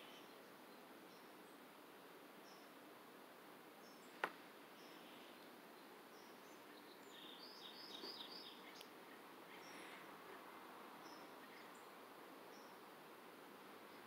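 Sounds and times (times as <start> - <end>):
faint distant bird chirps: 0.0 - 2.8, 3.8 - 14.0.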